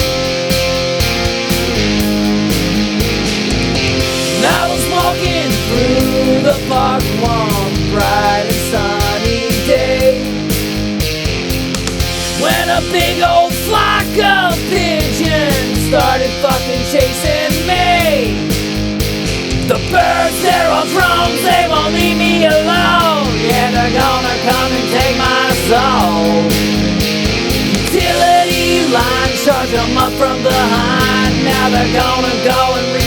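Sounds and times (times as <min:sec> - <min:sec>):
bending lead guitar melody: 0:00.0 - 0:33.0
rock band instrumental: 0:00.0 - 0:33.0.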